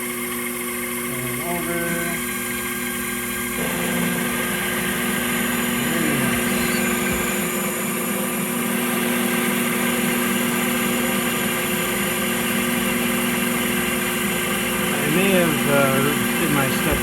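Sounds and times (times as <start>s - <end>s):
milling machine whine: 0.0s - 17.0s.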